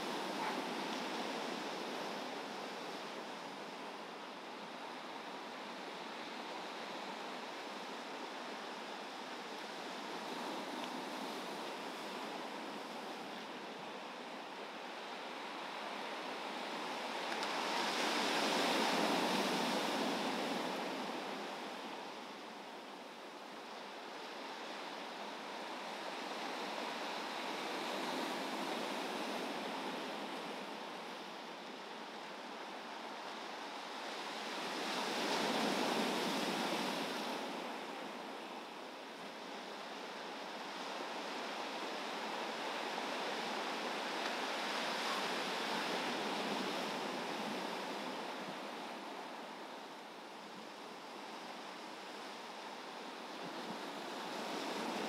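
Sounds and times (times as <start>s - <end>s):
waves breaking on shore: 0.0s - 55.0s
wind: 0.0s - 55.0s.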